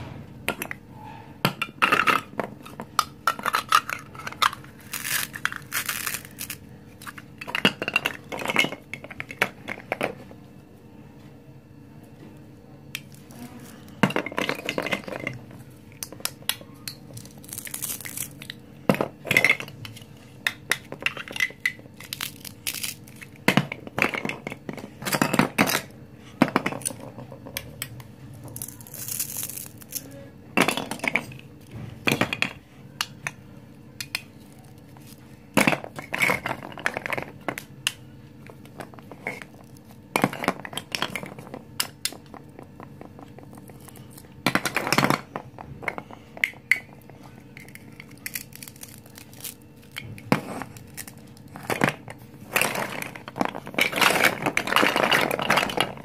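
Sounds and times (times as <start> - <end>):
plastic toy pieces clattering: 1.4 - 10.2, 13.0 - 31.4, 34.0 - 38.0, 38.6 - 56.0.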